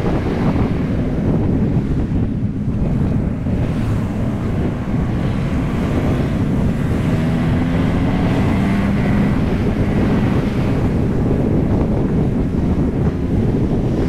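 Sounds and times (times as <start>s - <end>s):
wind buffeting microphone: 0.0s - 14.0s
motorcycle engine: 1.7s - 14.0s.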